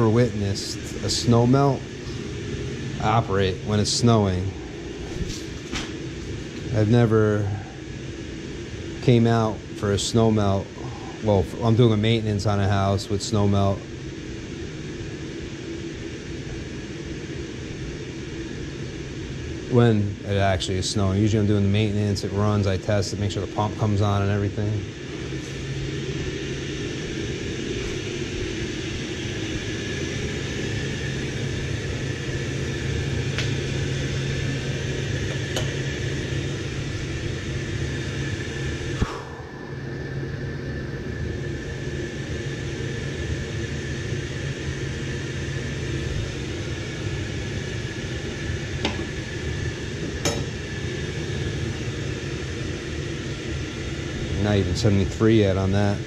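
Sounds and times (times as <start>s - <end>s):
heating plant hum and hiss: 0.0s - 56.0s.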